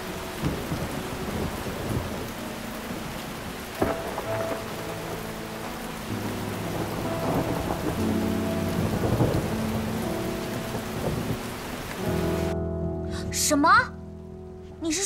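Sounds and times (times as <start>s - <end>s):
rain hiss: 0.0s - 12.6s
soft background music chords: 0.0s - 15.0s.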